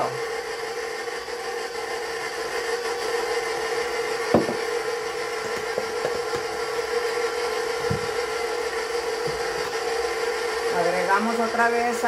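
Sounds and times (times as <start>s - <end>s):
stand mixer humming: 0.0s - 12.0s.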